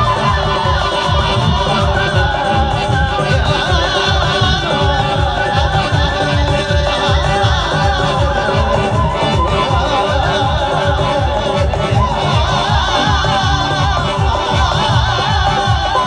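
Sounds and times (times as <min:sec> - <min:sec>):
band playing a steady beat: 0:00.0 - 0:16.0
children's choir singing: 0:00.0 - 0:16.0.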